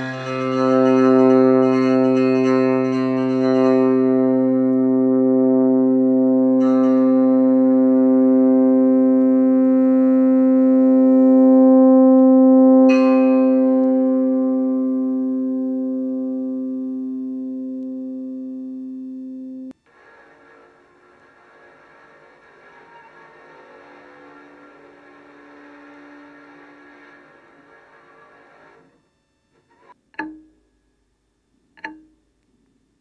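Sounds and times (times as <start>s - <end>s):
droning amplified string tone: 0.0s - 31.1s.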